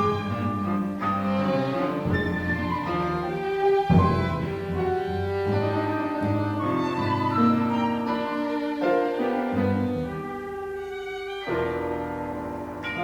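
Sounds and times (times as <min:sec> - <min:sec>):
bowed strings: 0:00.0 - 0:13.0
piano: 0:00.0 - 0:13.0.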